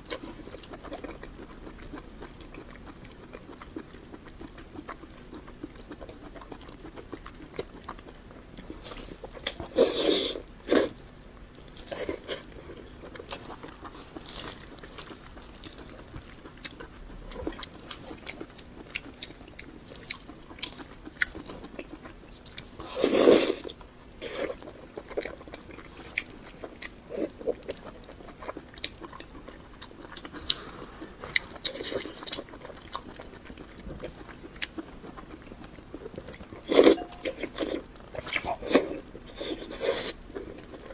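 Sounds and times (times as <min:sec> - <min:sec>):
chewing and biting: 0:00.0 - 0:40.9.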